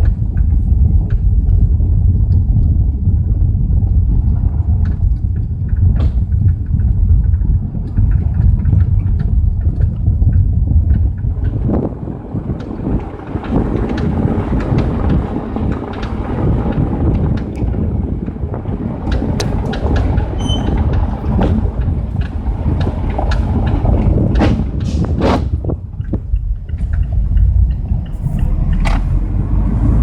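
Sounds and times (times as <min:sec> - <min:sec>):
car suspension rattling and knocking: 0:00.0 - 0:29.3
driving noise rumble: 0:00.0 - 0:30.0.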